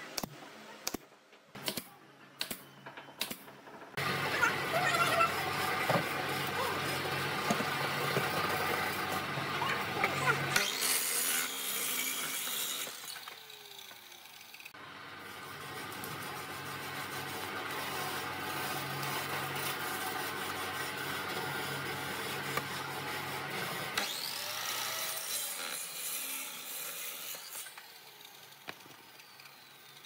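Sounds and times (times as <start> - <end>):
miter saw cutting wood: 4.0 - 30.0.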